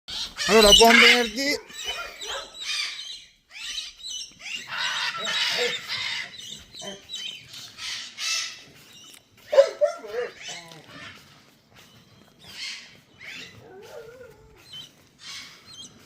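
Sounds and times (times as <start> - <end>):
macaw squawking: 0.1 - 16.0.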